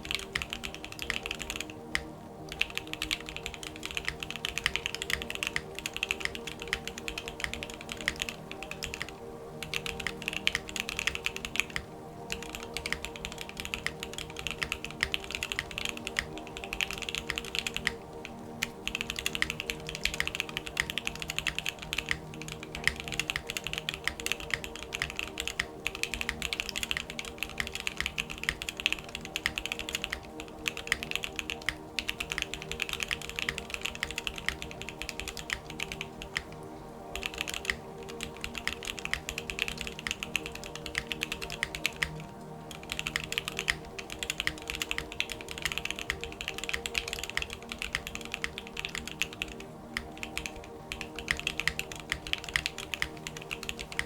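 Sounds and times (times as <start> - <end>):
mechanical keyboard typing: 0.0 - 36.6, 37.2 - 54.0
soft background music: 0.0 - 54.0.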